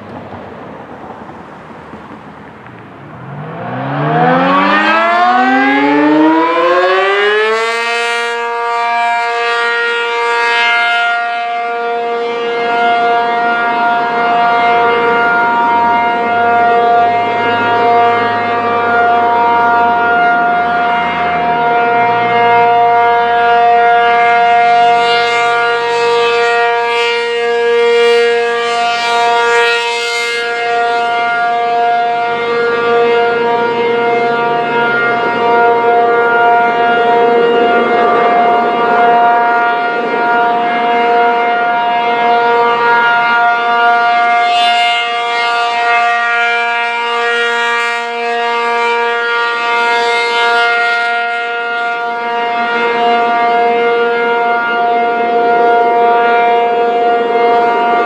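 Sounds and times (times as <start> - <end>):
rotating warning siren: 0.0 - 58.0.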